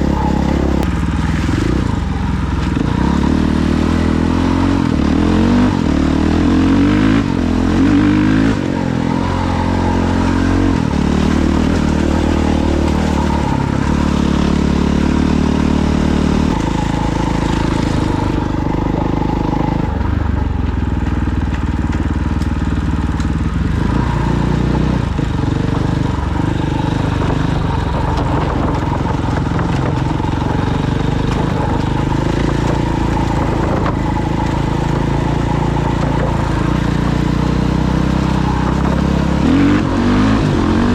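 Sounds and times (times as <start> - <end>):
off-road vehicle engine revving: 0.0 - 40.9.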